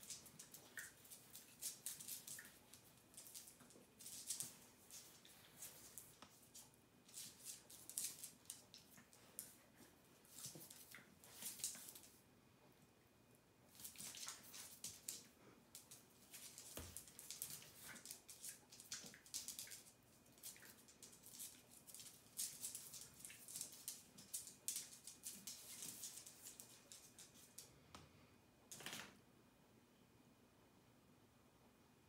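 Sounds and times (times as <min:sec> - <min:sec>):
dog claws clicking on hard floor: 0:00.0 - 0:12.2, 0:13.7 - 0:27.7.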